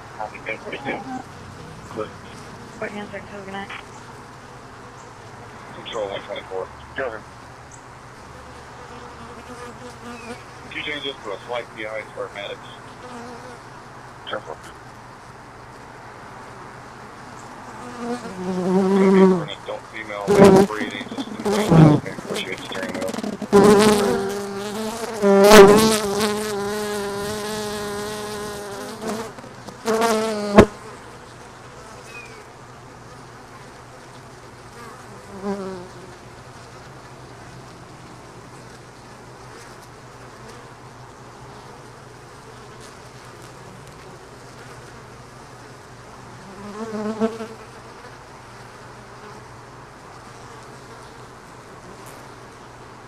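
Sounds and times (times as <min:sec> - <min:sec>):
bee buzzing close by: 0:00.0 - 0:06.4, 0:08.0 - 0:11.5, 0:12.4 - 0:13.9, 0:16.3 - 0:52.8
bee colony humming: 0:00.0 - 0:53.0.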